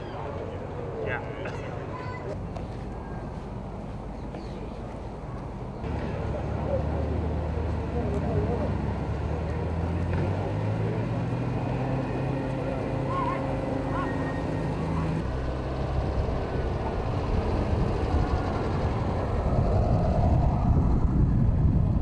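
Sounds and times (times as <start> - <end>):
car engine idling: 0.0 - 20.4.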